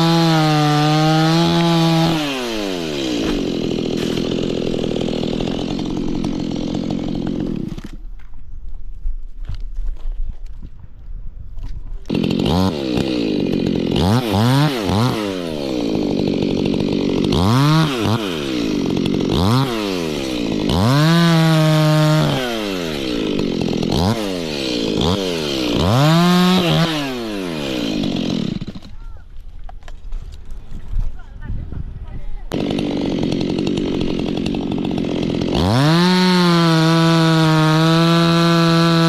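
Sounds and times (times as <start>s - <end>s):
chainsaw idling and revving: 0.0s - 8.1s, 12.1s - 29.2s, 32.4s - 39.0s.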